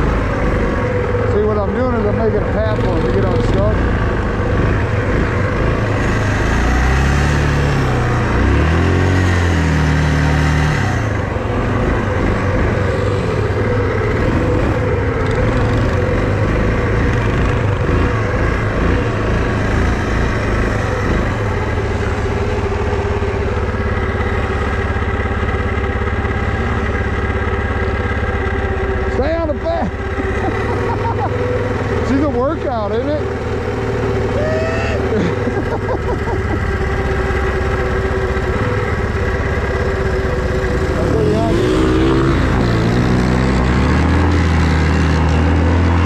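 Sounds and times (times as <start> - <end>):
all-terrain vehicle engine: 0.0 - 46.0.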